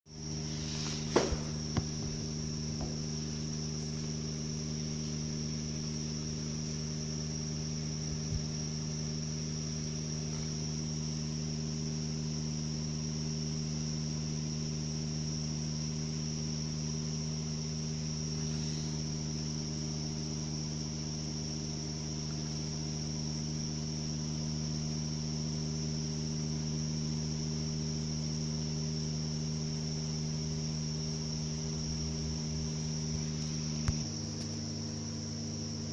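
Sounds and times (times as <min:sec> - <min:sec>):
gearbox whine over low hum: 0:00.1 - 0:35.9.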